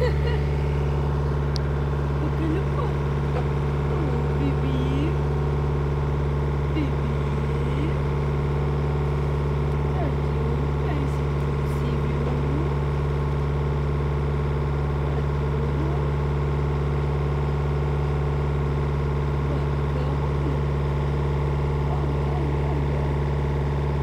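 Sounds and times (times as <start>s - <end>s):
diesel engine low drone: 0.0s - 24.0s.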